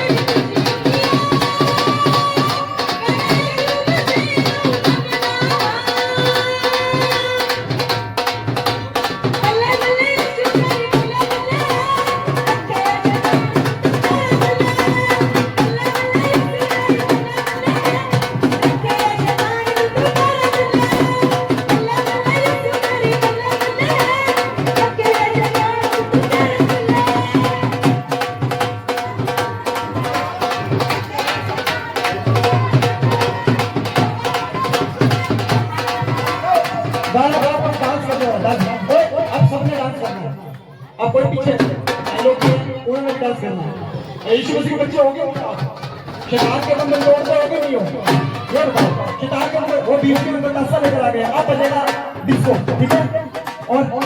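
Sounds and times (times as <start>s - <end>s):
fast hand drum percussion: 0.0s - 54.0s.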